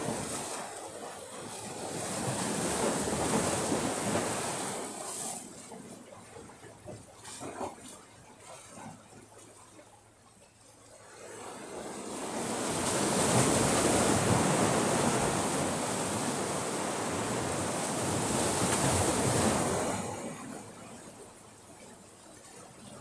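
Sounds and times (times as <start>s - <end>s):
waves breaking: 0.0s - 10.2s, 10.8s - 23.0s.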